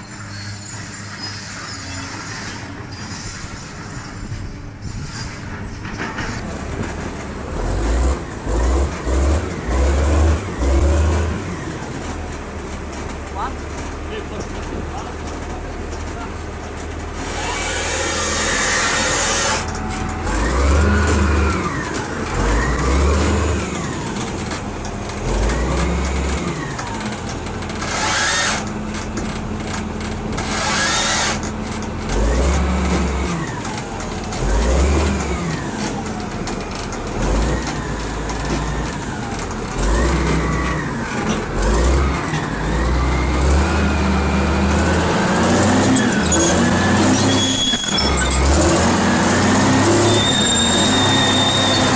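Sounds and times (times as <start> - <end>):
heavy machine engine revving: 1.5 - 51.9.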